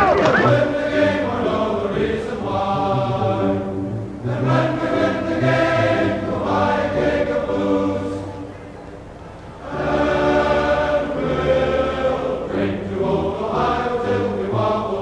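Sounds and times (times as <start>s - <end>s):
choir singing slow song: 0.0s - 8.6s, 9.3s - 15.0s.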